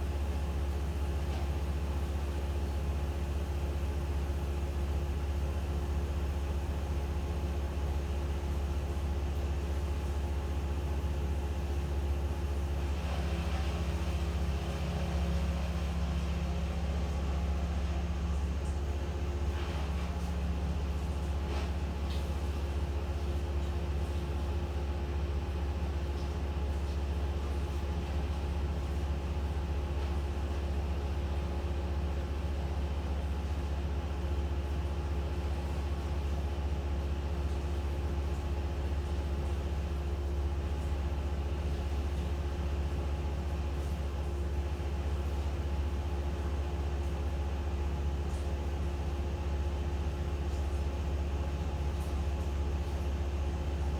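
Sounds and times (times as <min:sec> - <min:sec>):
engine running steadily: 0:00.0 - 0:46.7.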